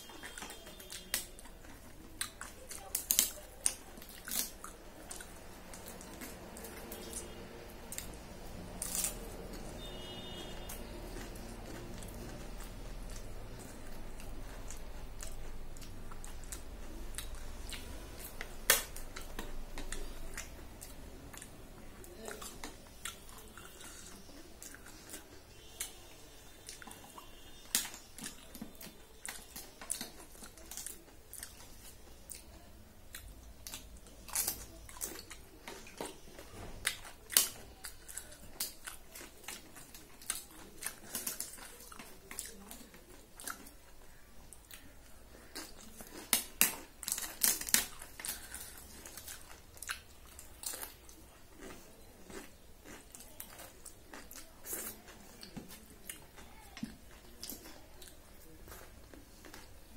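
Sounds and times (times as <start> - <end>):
chewing crisp papad: 0.0 - 59.9.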